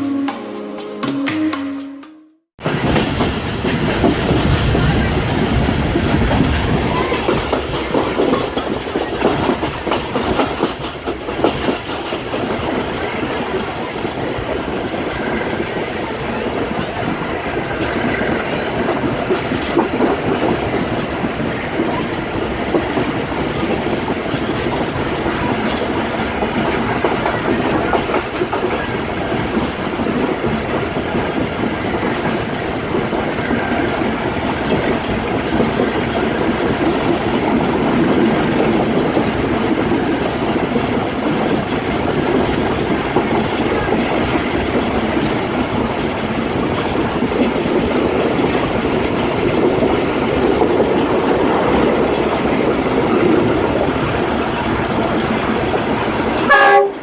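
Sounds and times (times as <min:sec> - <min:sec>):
train rolling rumble: 0:02.6 - 0:57.0
train wheels clattering over rails: 0:02.6 - 0:57.0.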